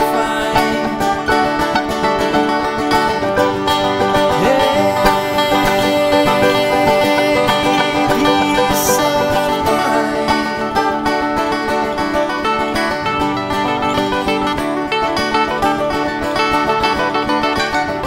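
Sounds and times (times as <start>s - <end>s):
country bluegrass song with banjo: 0.0s - 18.0s.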